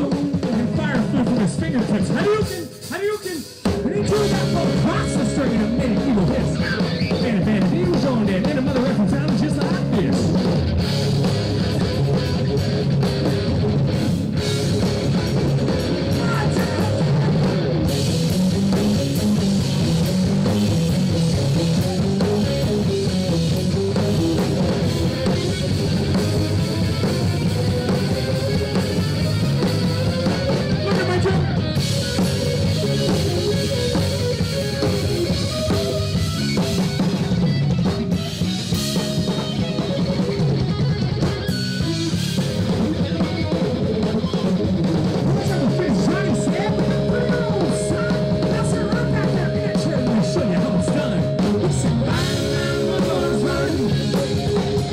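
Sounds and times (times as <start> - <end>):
bass guitar: 0.0 - 54.9
drum kit beat: 0.0 - 54.9
lead melody sliding: 4.0 - 42.4, 43.0 - 54.9.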